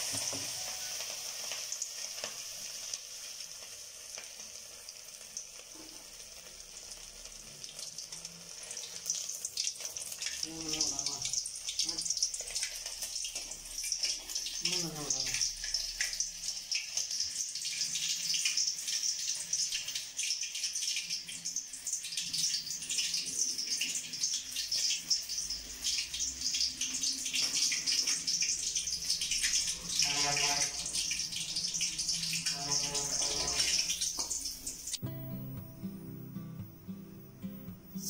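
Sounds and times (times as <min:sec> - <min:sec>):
oil sizzling in a pan: 0:00.0 - 0:35.0.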